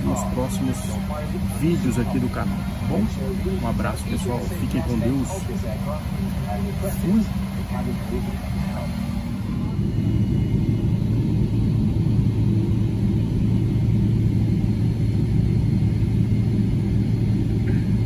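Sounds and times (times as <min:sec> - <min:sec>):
jet engine rumble in cabin: 0:00.0 - 0:18.0
low steady hum: 0:00.0 - 0:18.0.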